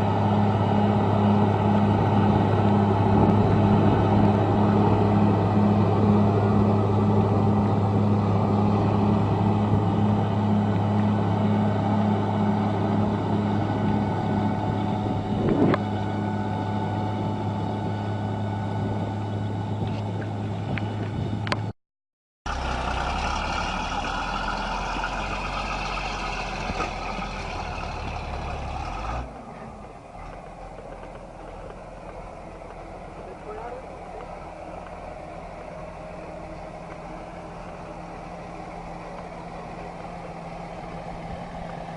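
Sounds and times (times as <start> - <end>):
heavy diesel engine humming: 0.0 - 21.7, 22.5 - 41.9
heavy engine rumbling: 0.0 - 21.7, 22.5 - 41.9.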